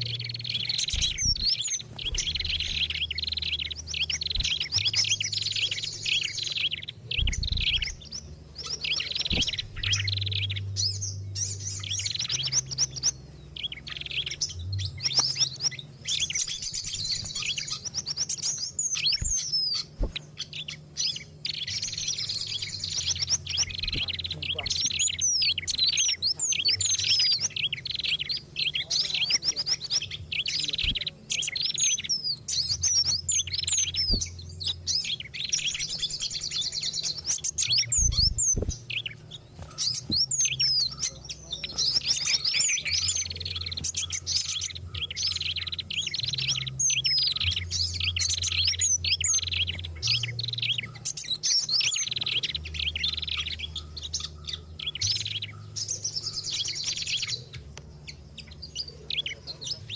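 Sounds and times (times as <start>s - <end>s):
steady low hum: 0.0s - 51.3s
songbirds chirping and trilling: 0.0s - 59.9s.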